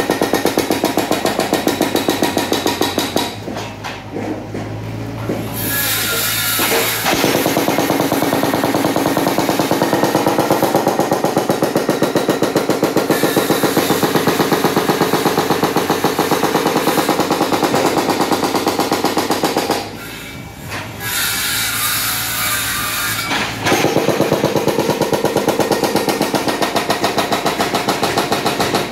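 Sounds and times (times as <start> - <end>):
hydraulic breaker hammering concrete: 0.0 - 20.0, 21.2 - 28.9.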